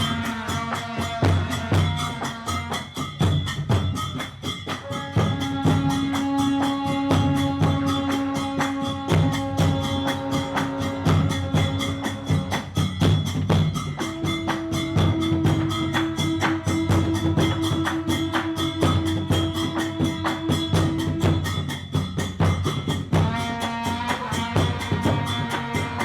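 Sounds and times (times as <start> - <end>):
percussion fast beat: 0.0 - 26.0.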